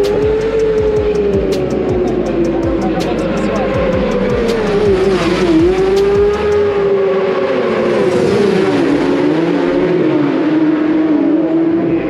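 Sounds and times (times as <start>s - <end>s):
racing motorcycle engines: 0.0s - 12.0s.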